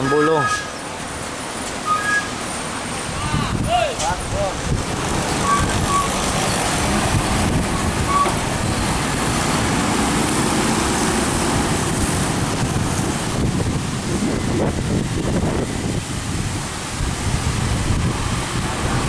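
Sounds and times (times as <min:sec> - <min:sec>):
heavy trucks passing: 0:00.0 - 0:19.0.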